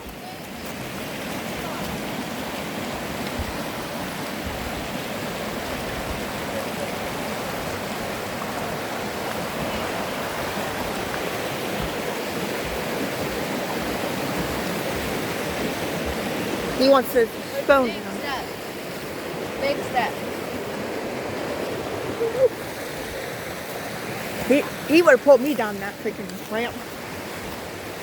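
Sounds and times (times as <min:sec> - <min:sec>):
rush of flowing water: 0:00.0 - 0:28.0.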